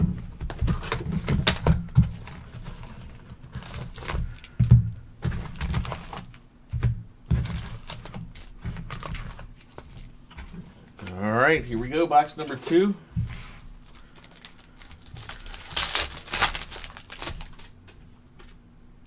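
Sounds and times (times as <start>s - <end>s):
card packs rustling: 0.0s - 6.4s, 7.3s - 18.6s.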